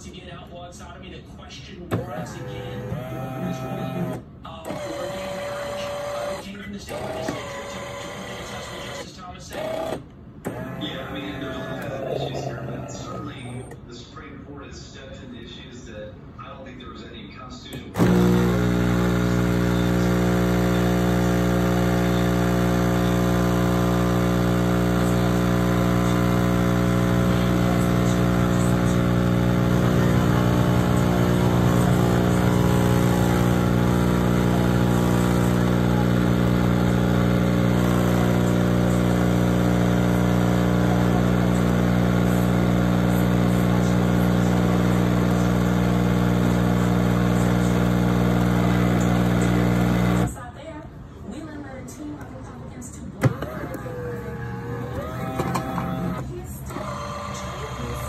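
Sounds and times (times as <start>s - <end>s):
espresso machine pump humming: 1.9s - 13.8s, 17.9s - 50.4s, 53.2s - 58.0s.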